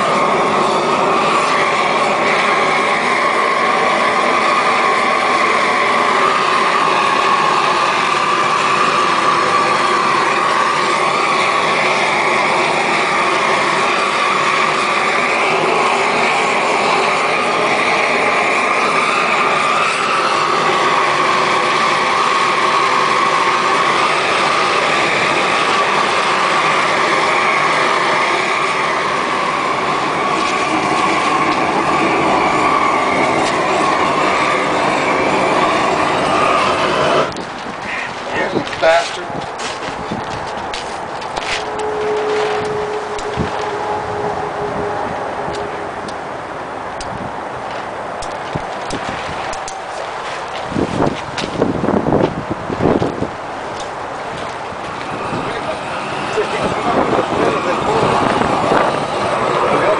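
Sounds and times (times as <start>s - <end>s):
roofing torch burning: 0.0s - 59.9s.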